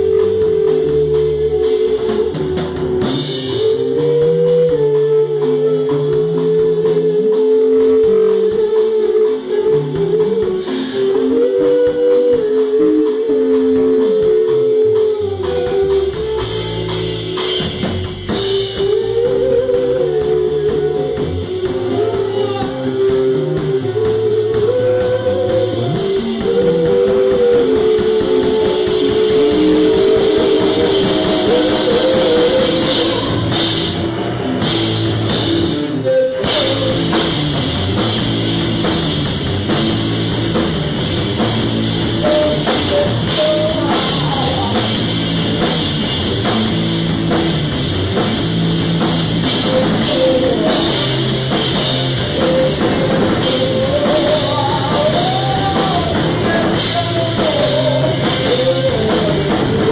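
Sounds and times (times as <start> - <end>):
drum kit: 0.0 - 59.9
guitar riff: 0.0 - 59.9.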